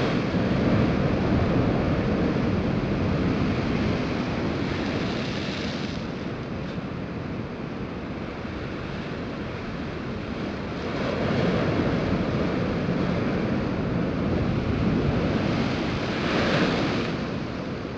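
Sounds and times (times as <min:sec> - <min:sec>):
waves crashing against cliffs: 0:00.0 - 0:07.3, 0:08.1 - 0:17.9.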